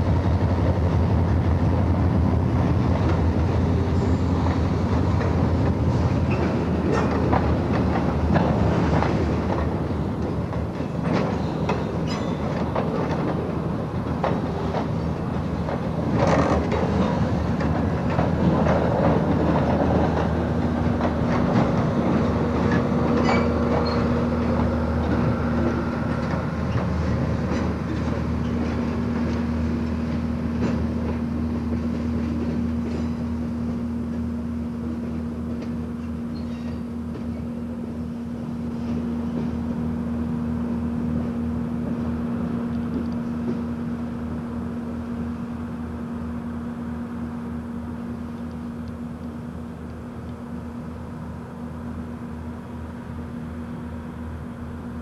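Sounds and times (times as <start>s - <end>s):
train wheels clicking over rail joints: 0.0s - 45.4s
train rolling drone: 0.0s - 55.0s.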